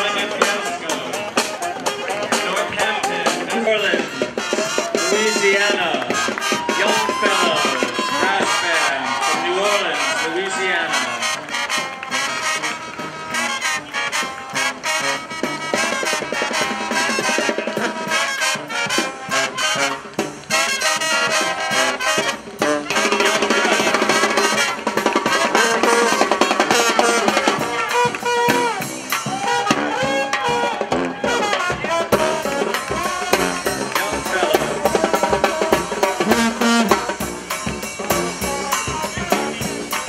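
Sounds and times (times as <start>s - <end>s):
marching drum beat: 0.0s - 40.0s
trumpets and trombones: 0.0s - 40.0s.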